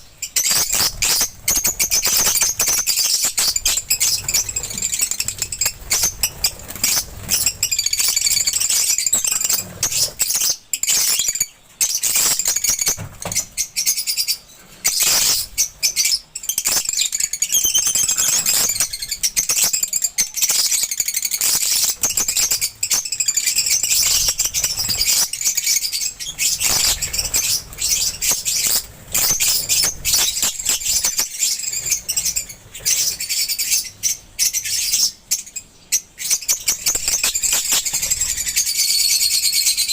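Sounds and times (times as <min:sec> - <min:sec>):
lovebirds chattering: 0:00.0 - 0:39.9.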